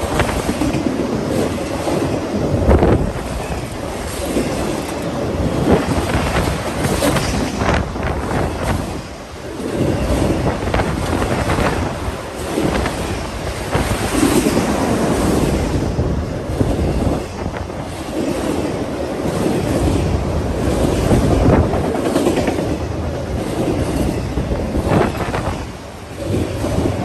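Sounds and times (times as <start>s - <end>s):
freight train cars rolling: 0.0s - 27.0s
wind buffeting microphone: 0.0s - 27.0s.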